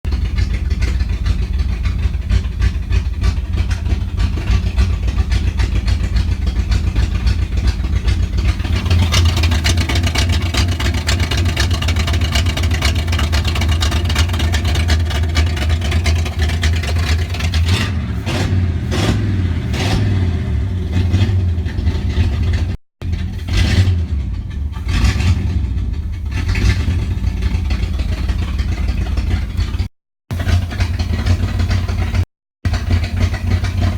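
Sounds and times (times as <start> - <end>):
car engine running and revving: 0.0 - 33.9.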